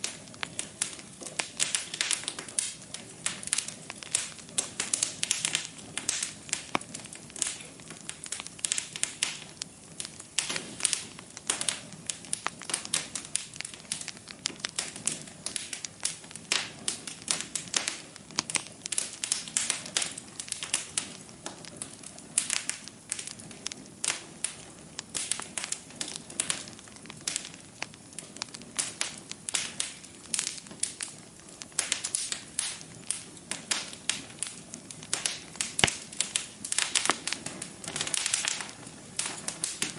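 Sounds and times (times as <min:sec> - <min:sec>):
wood fire pops and crackles: 0:00.0 - 0:39.9.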